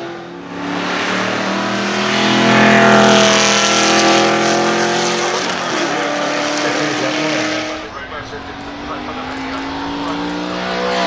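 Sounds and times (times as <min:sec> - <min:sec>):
racing car engine driving past: 0:00.0 - 0:11.0.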